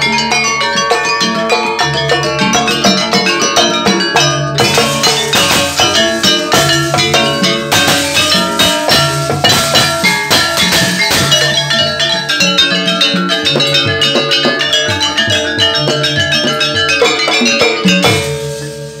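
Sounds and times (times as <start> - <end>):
hand drums fast rhythm: 0.0 - 19.0
metal percussion: 0.0 - 19.0.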